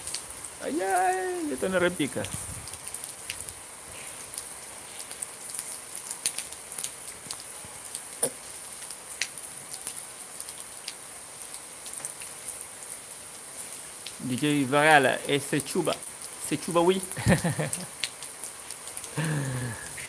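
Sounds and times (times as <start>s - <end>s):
rain hiss: 0.0s - 20.0s
raindrops pattering: 0.0s - 20.0s.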